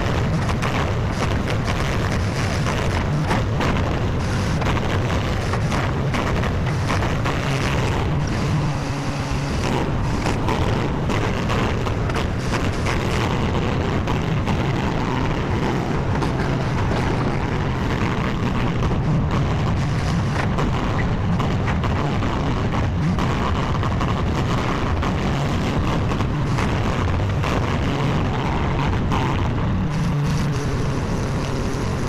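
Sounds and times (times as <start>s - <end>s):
knocks and clatter: 0.0s - 31.6s
skid steer engine running: 0.0s - 32.0s.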